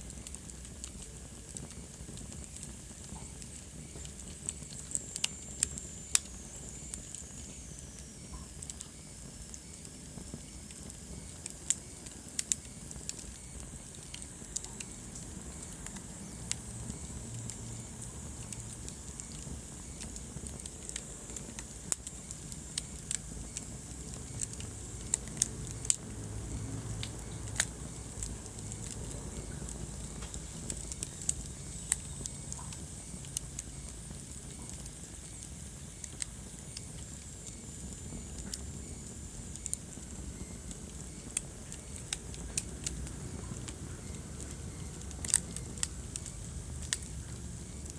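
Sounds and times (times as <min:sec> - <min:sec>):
fire crackling and popping: 0:00.0 - 0:47.9
fire flames rumbling: 0:00.0 - 0:47.9.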